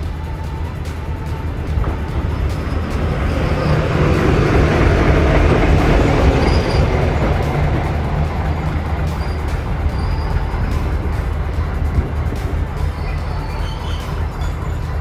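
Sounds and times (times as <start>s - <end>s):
diesel engine rumbling: 0.0s - 15.0s
train wheels on rails: 0.0s - 15.0s.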